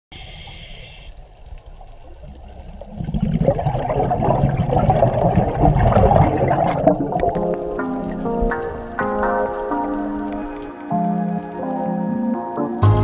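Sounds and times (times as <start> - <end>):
water bubbling: 0.5 - 12.4.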